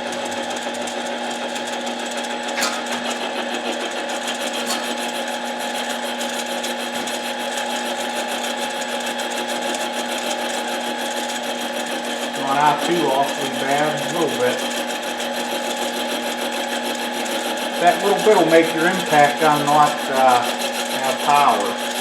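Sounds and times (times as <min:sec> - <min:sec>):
lathe motor humming: 0:00.0 - 0:22.0.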